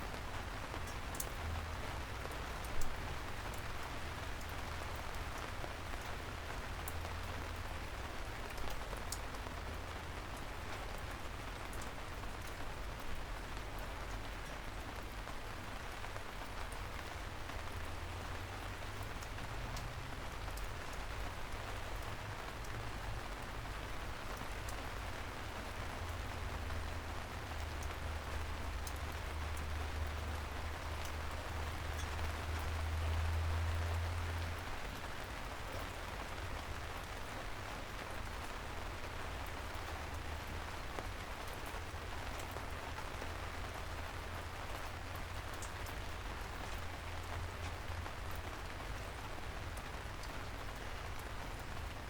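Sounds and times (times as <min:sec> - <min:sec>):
light rain falling: 0:00.0 - 0:52.0.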